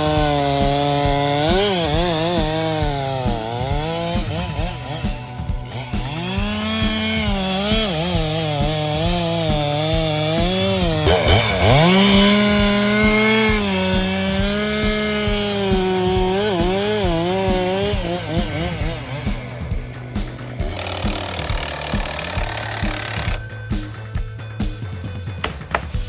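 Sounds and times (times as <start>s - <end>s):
chainsaw cutting wood: 0.0s - 23.6s.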